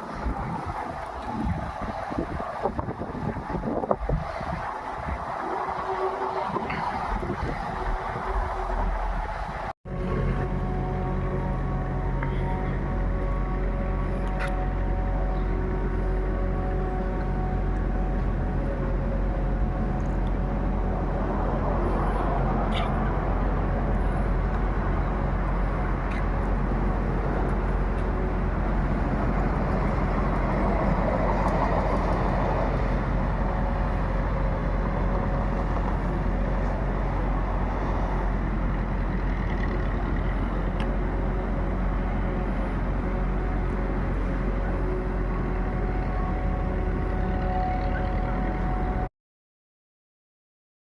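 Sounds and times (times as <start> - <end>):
car engine drone: 0.0 - 49.1
tyre and road noise: 0.0 - 49.1.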